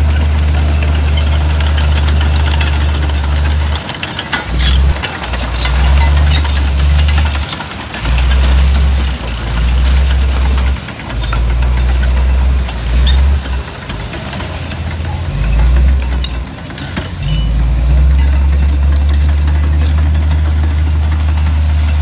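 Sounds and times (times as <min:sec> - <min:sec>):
heavy diesel engine working: 0:00.0 - 0:22.0
metallic clanks and rattles: 0:00.0 - 0:22.0.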